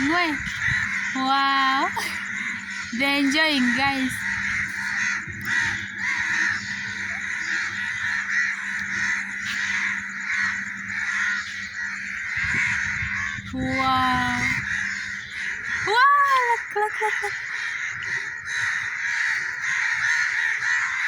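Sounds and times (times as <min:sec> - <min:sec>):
large flock of birds calling: 0:00.0 - 0:21.0.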